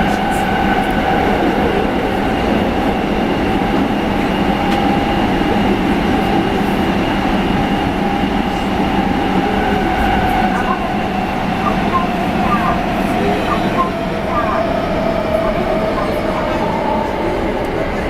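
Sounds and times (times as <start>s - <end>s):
steady train whine: 0.0s - 18.0s
train wheels rumbling on rail: 0.0s - 18.0s.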